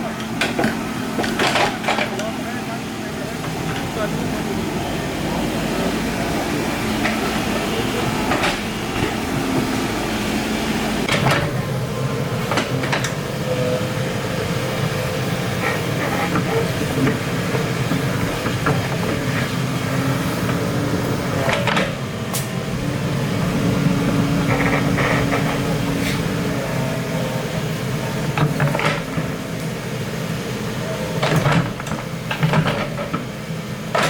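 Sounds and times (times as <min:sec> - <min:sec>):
excavator engine running: 0:00.0 - 0:34.0.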